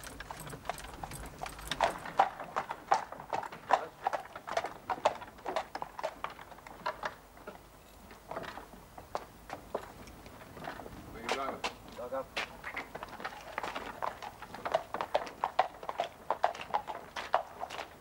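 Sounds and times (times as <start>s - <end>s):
horse hooves clip-clopping on road: 0.0s - 18.0s.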